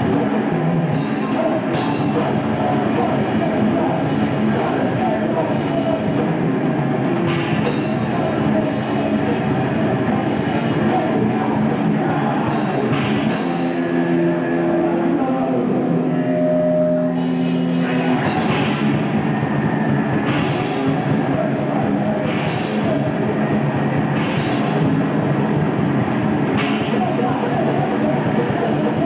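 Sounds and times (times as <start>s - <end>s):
heavy metal band playing: 0.0s - 29.0s.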